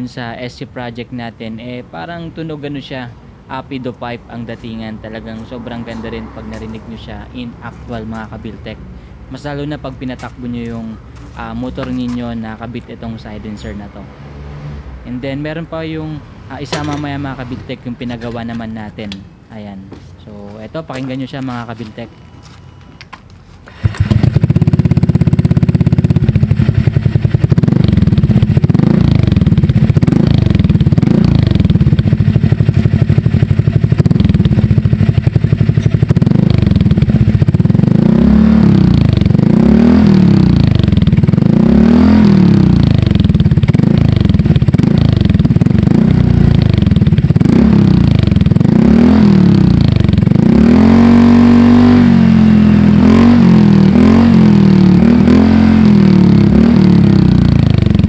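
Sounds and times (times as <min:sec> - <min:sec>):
scooter engine idling and revving: 0:00.0 - 0:22.4, 0:23.7 - 0:58.0.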